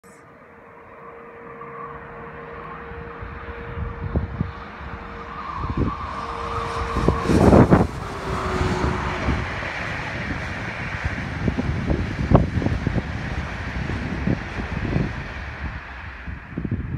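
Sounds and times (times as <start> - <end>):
locomotive whine: 0.0 - 16.9
train wheels rumbling on rail: 3.2 - 16.9.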